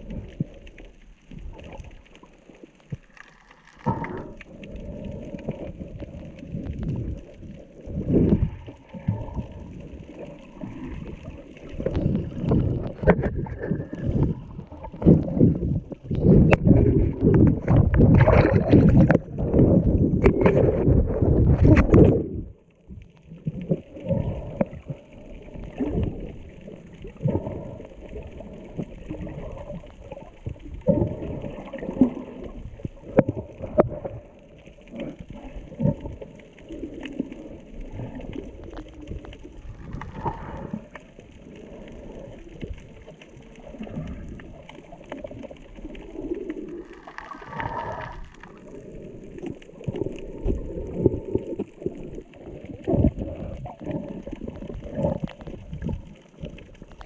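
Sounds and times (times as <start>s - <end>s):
clicks and crackles underwater: 0.0s - 57.0s
water splashing and sloshing: 0.0s - 57.0s.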